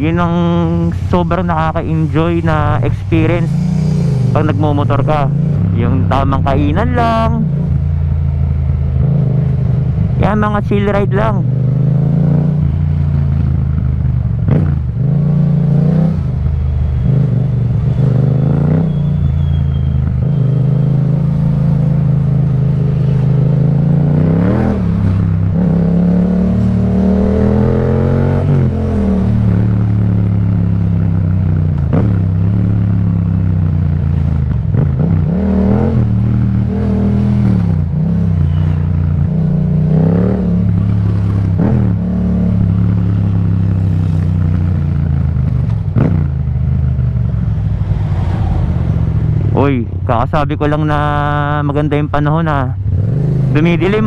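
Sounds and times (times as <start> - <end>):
motorcycle engine revving: 1.6 - 50.1, 50.9 - 54.0.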